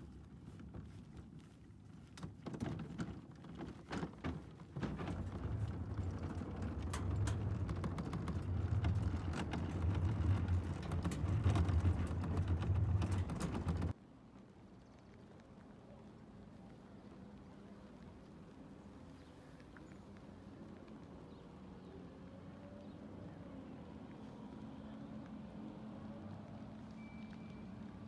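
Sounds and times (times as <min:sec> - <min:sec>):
cart wheels rolling and rattling: 0:00.0 - 0:14.0, 0:14.6 - 0:28.0.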